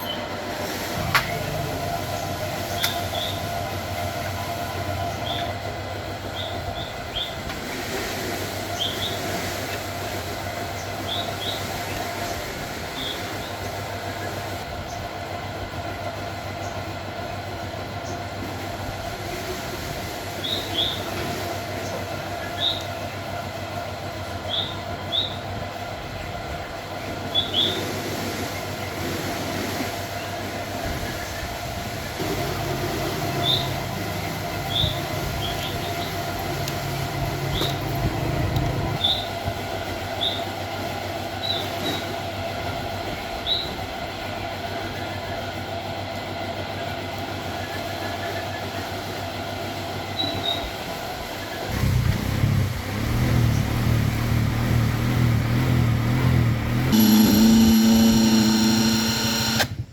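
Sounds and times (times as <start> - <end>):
small engine droning: 0.0 - 59.9.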